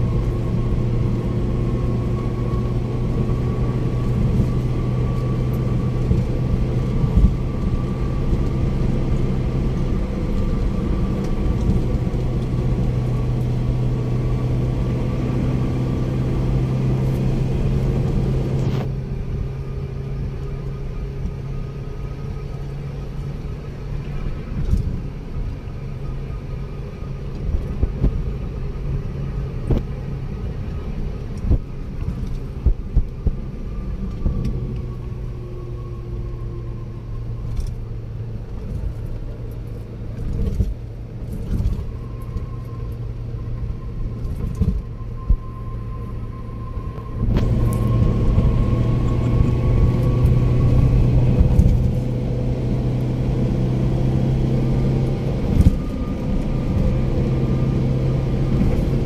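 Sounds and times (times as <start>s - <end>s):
car road noise from inside: 0.0s - 59.0s.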